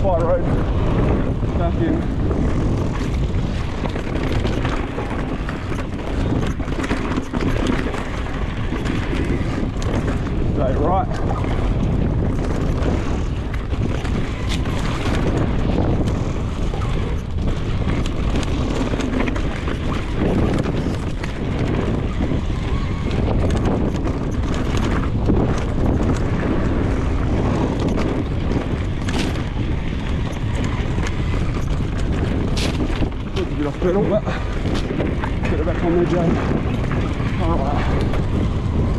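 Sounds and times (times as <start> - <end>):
bike knocks and rattles: 0.0 - 38.9
tyre noise on dirt: 0.0 - 38.9
wind buffeting microphone: 0.0 - 38.9.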